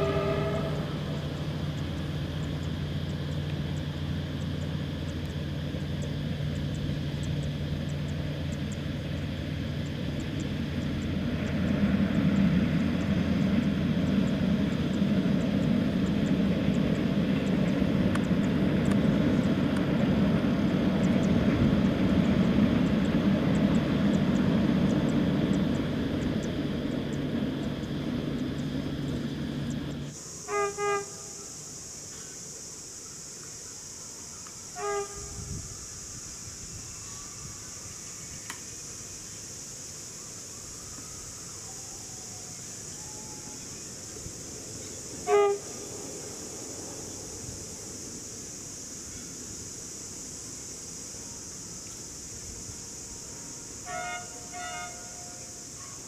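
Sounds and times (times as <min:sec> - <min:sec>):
diesel engine drone: 0:00.0 - 0:31.9, 0:35.0 - 0:56.0
train carriages rumbling past: 0:00.0 - 0:32.9, 0:33.9 - 0:56.0.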